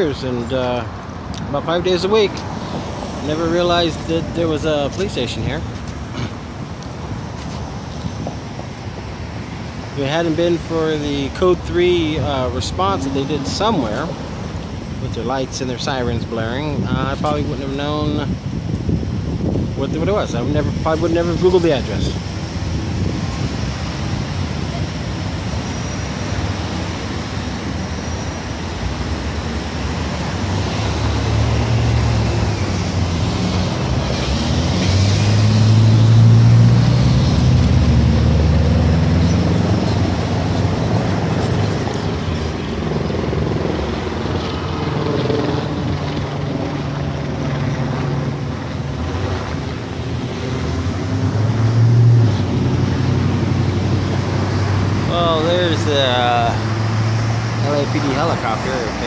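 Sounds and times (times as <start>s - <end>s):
traffic engine rumble: 0.0s - 59.0s.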